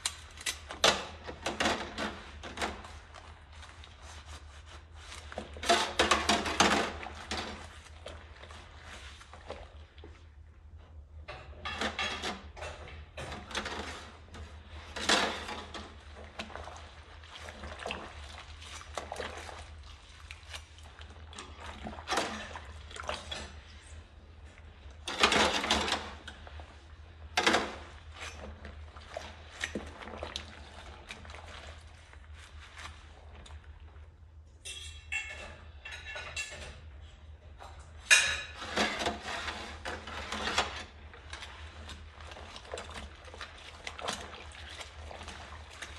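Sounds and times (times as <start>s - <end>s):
water swishing and splashing: 0.9s - 10.8s, 12.0s - 34.4s, 38.1s - 45.9s.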